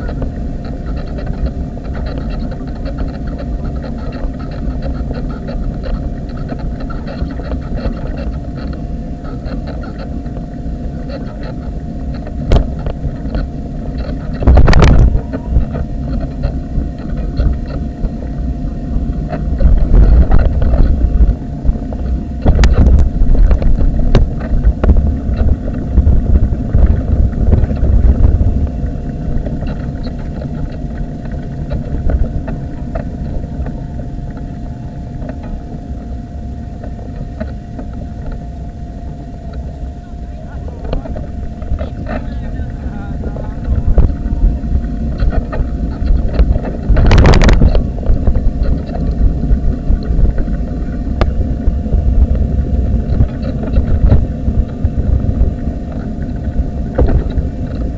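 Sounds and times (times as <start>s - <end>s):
faint constant whine: 0.0s - 57.9s.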